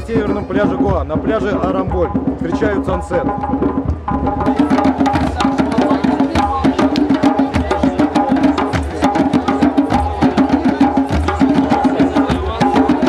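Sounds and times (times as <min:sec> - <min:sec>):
hand drums playing fast rhythm: 0:00.0 - 0:13.0.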